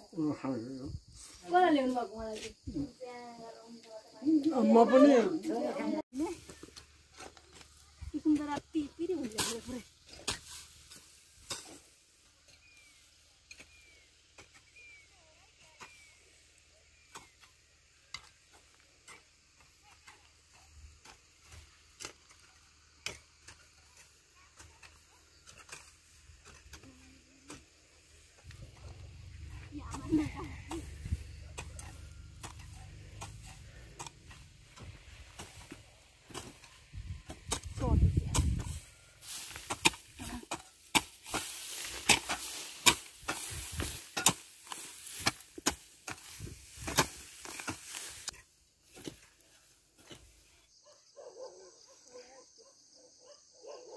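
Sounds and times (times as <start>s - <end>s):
hand hoes striking dry soil: 6.2s - 50.5s.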